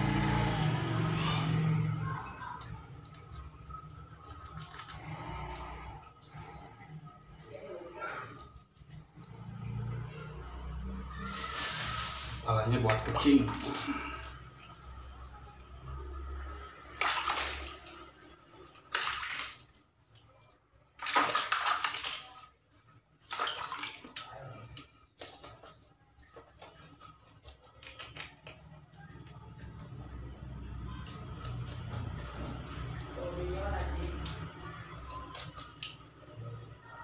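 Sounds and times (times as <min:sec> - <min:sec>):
hands splashing water in basins: 0:00.1 - 0:29.9, 0:31.3 - 0:37.0.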